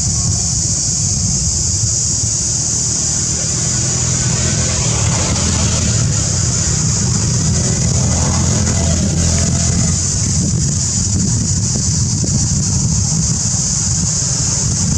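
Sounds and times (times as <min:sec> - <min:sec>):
low rumble: 0:00.0 - 0:14.3
high-pitched insect drone: 0:00.0 - 0:14.9.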